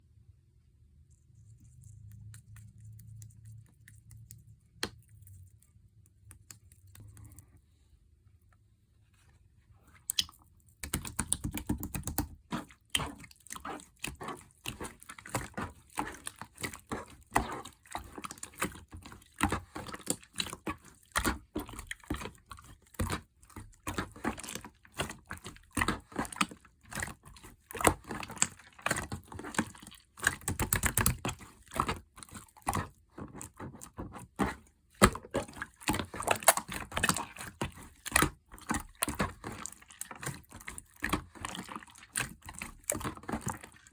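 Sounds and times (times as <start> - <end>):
slime squishing: 1.0 - 7.8, 9.1 - 43.9.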